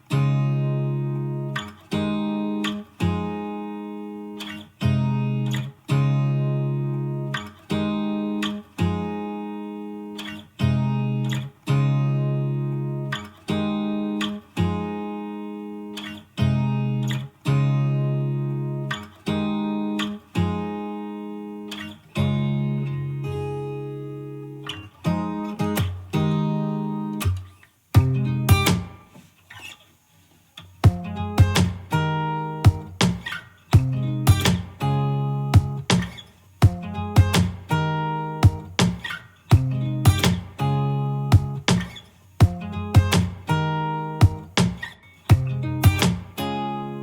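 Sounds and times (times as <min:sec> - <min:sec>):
acoustic guitar slow chords: 0:00.0 - 0:29.7, 0:30.6 - 0:47.0.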